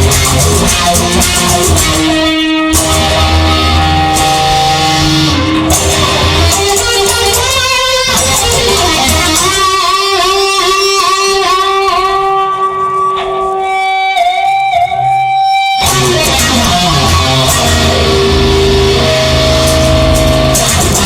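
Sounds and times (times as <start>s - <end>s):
drums: 0.0s - 15.0s, 15.8s - 21.0s
bass guitar: 0.0s - 21.0s
electric guitar lead with vibrato: 0.0s - 21.0s.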